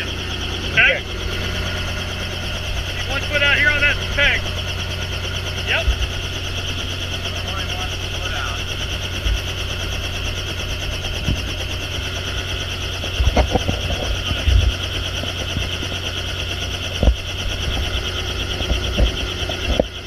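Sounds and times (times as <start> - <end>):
helicopter rotor beat: 0.0 - 20.0
helicopter turbine whine: 0.0 - 20.0.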